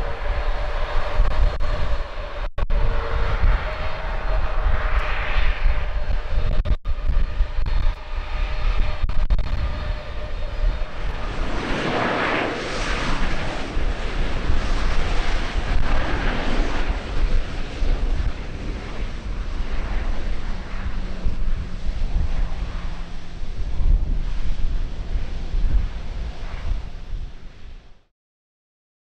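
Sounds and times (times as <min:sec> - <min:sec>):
wind buffeting microphone: 0:00.0 - 0:28.0
airliner engines whining: 0:00.0 - 0:28.1.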